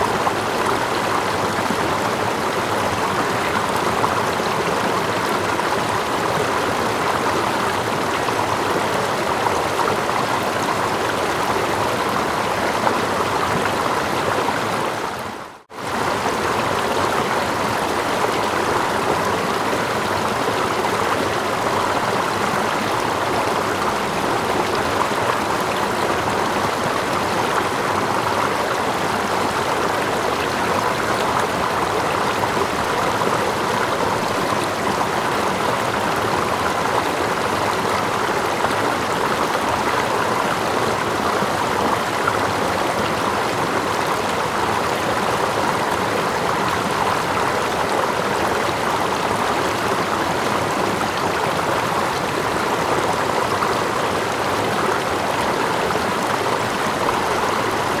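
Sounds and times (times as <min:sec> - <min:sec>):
small waterfall cascading: 0:00.0 - 0:58.0
stream flowing: 0:00.0 - 0:58.0.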